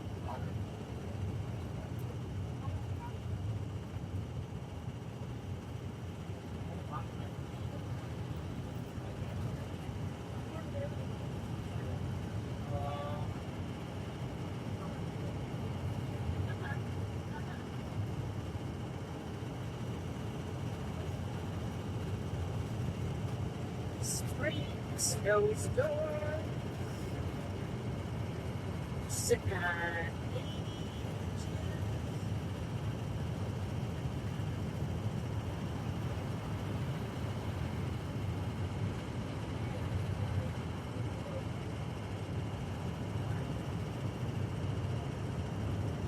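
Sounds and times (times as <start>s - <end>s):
vehicle cabin rumble: 0.0s - 46.0s.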